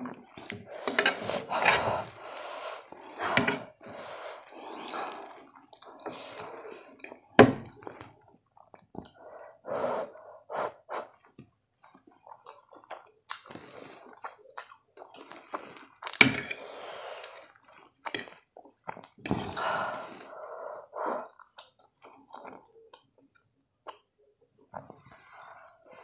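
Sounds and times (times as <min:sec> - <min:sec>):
wet chewing and slurping noodles: 0:00.0 - 0:09.5, 0:10.1 - 0:23.2.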